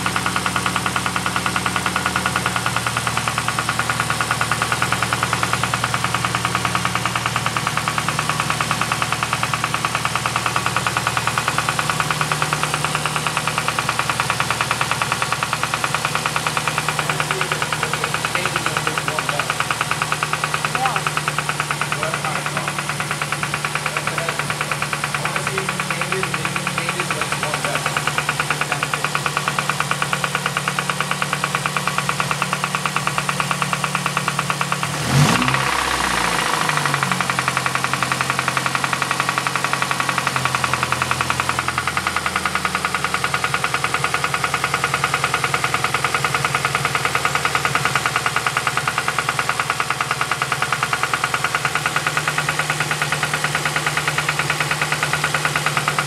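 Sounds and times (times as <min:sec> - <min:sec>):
car engine idling with knock: 0:00.0 - 0:56.0.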